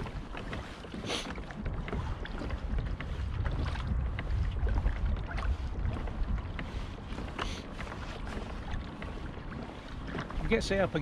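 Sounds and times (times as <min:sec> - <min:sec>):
water splashing against plastic hull: 0:00.0 - 0:11.0
wind buffeting microphone: 0:00.0 - 0:11.0.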